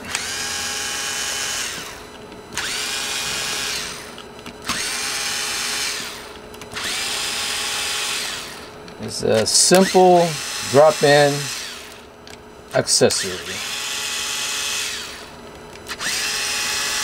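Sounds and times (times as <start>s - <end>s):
power screwdriver whining: 0.0s - 8.7s, 9.4s - 12.1s, 13.2s - 17.0s.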